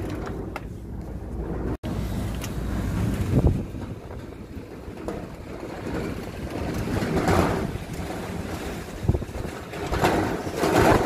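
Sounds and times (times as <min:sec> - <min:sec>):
wind gusting on microphone: 0:00.0 - 0:11.0.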